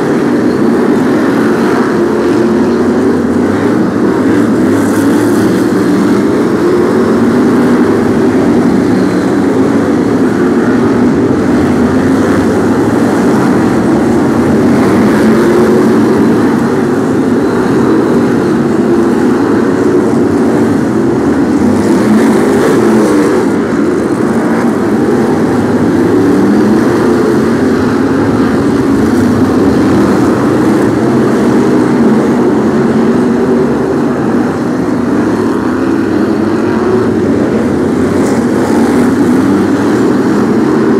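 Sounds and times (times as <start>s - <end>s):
racing car engines: 0.0s - 40.9s.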